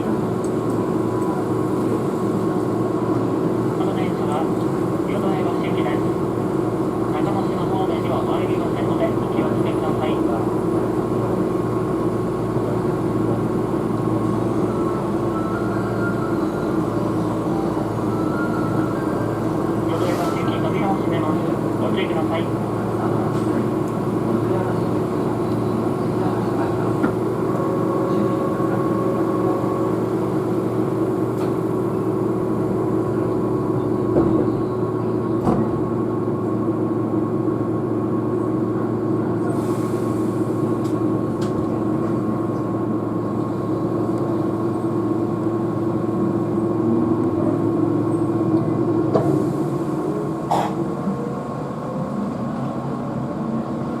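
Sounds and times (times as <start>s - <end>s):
train motors humming: 0.0s - 54.0s.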